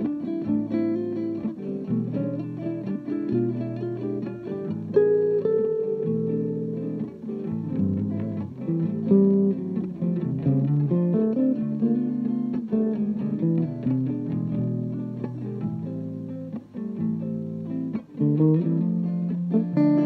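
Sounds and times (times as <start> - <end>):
acoustic guitar playing jazz: 0.0 - 20.0.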